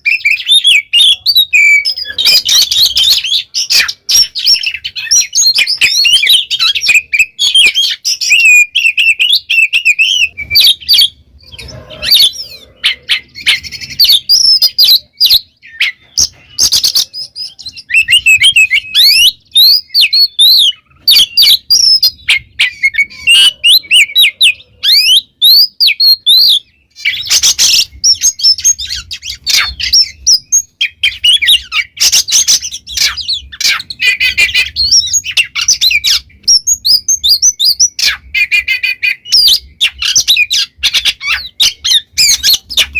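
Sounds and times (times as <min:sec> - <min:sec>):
bird singing: 0:00.0 - 0:42.9.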